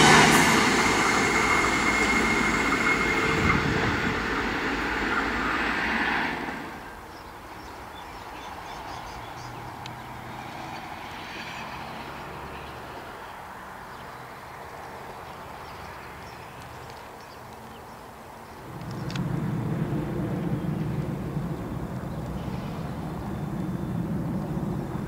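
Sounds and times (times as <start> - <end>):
diesel railcar running: 0.0 - 13.8, 18.2 - 25.0.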